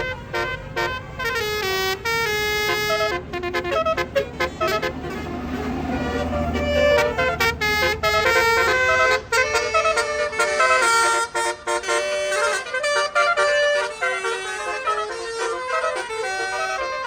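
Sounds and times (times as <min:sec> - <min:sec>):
bus musical horn tune: 0:00.0 - 0:17.0
low engine rumble: 0:00.0 - 0:17.0.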